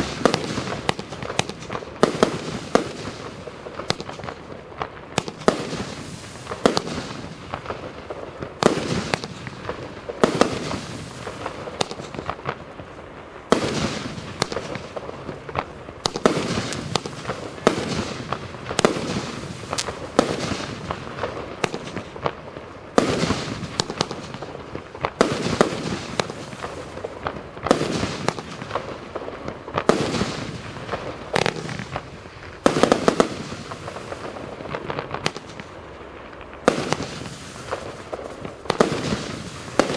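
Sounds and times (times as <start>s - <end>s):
heavy fireworks bang: 0.0s - 12.7s, 13.5s - 35.7s, 36.6s - 39.9s
fireworks barrage: 0.0s - 39.9s
fireworks crackling: 0.0s - 39.9s.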